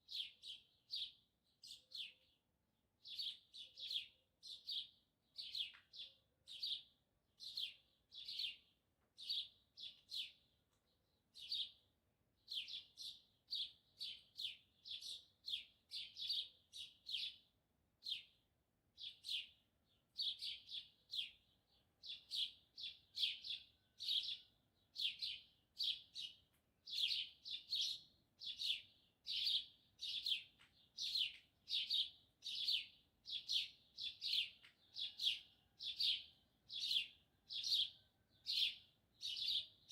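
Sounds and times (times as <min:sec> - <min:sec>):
small bird chirping: 0:00.0 - 0:02.4, 0:03.0 - 0:18.4, 0:19.0 - 0:39.9.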